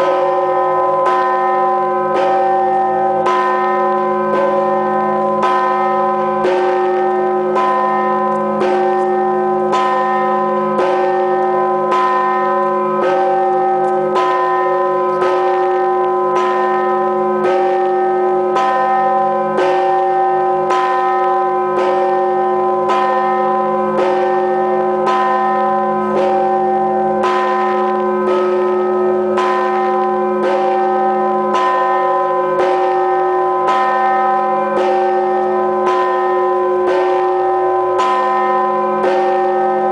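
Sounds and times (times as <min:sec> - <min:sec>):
large church bell tolling: 0:00.0 - 0:39.9.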